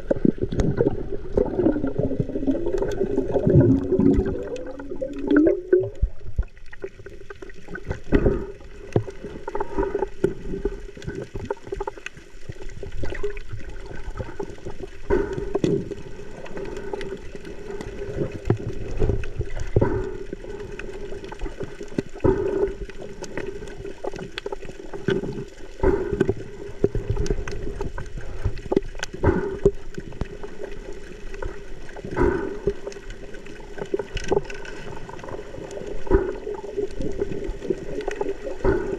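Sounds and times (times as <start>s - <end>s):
water sloshing and gurgling: 0.0s - 38.9s.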